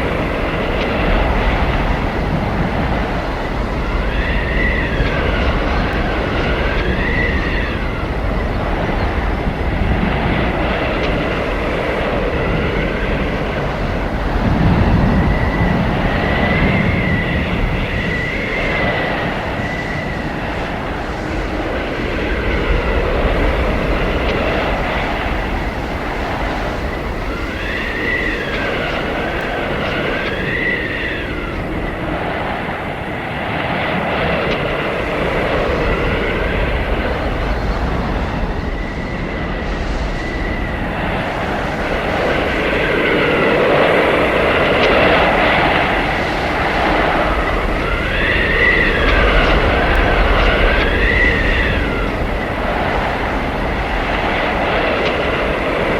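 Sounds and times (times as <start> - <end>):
blizzard wind rushing: 0.0 - 55.9
high whistling wind howl: 0.0 - 55.9.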